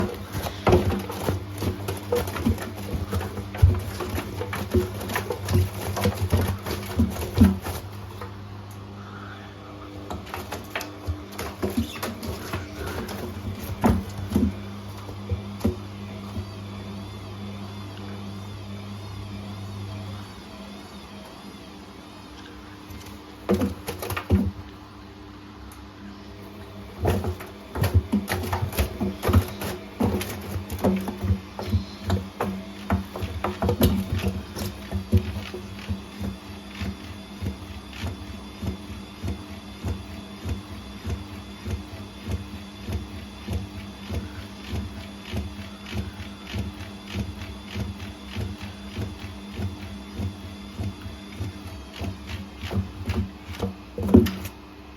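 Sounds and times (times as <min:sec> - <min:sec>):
washing machine motor hum: 0:00.0 - 0:54.9.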